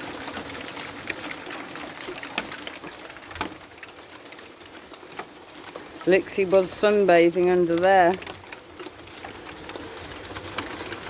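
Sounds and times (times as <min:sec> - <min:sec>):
hail knocks: 0:00.0 - 0:11.0
hailstones ticking on hard surfaces: 0:00.0 - 0:11.0
hiss of hail and rain: 0:00.0 - 0:11.0.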